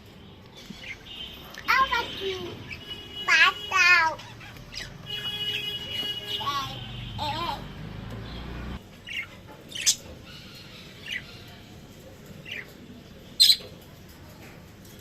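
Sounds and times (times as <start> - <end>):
lovebirds chirping and squawking: 0.2 - 14.0.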